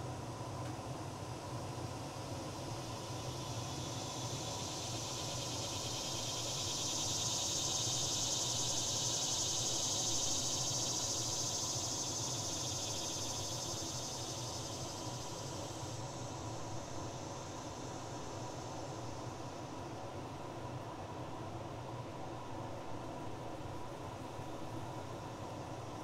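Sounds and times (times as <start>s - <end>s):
insects droning: 0.4s - 26.0s.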